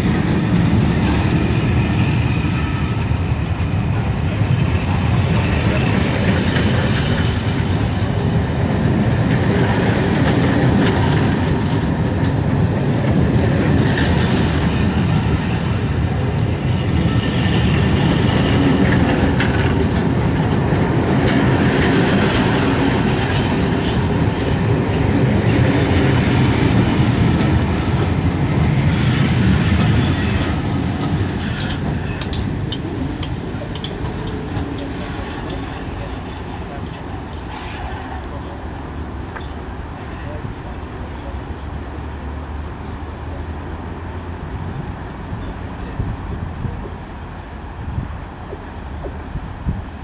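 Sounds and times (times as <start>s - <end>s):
train rumbling past: 0.0s - 50.0s
wheels clattering on rails: 0.0s - 50.0s.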